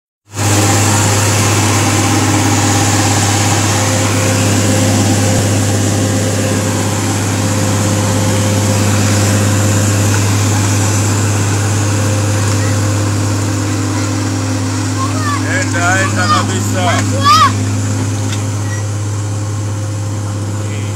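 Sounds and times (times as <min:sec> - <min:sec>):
truck diesel engine droning: 0:00.2 - 0:20.9.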